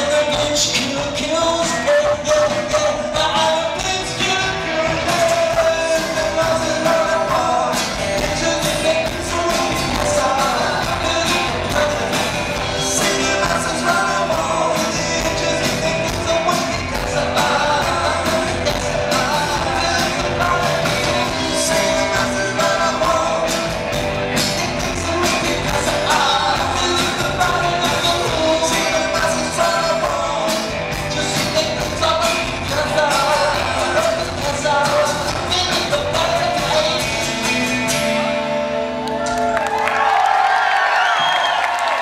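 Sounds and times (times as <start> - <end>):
live rock band playing: 0.0 - 40.1.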